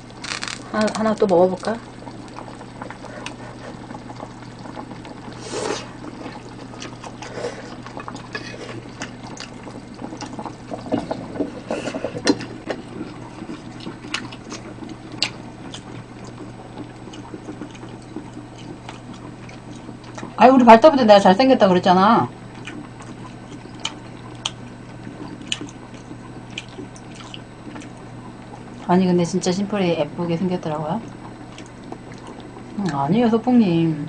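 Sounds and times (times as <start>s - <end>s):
liquid bubbling in pot: 0.0s - 34.0s.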